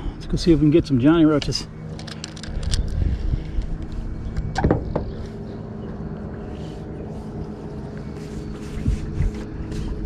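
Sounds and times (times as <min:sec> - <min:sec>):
boat motor humming: 0:00.0 - 0:10.0.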